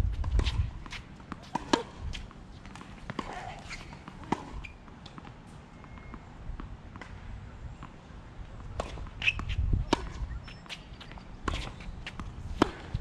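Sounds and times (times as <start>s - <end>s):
tennis balls struck and bouncing: 0.2s - 13.0s.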